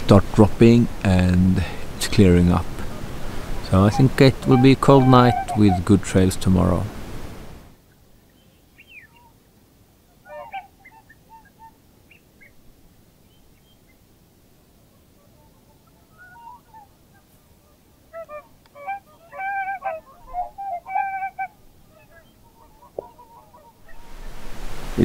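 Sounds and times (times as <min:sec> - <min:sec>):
swans honking: 0:00.0 - 0:24.6.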